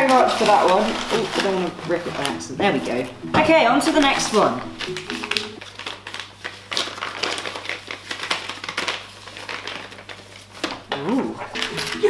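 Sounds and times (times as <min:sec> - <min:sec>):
paper envelope rustling: 0:00.0 - 0:12.0.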